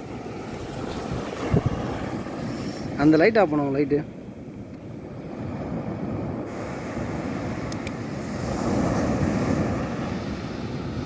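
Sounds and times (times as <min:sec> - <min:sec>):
sea waves washing: 0:00.0 - 0:11.0
wind on microphone: 0:00.0 - 0:11.0.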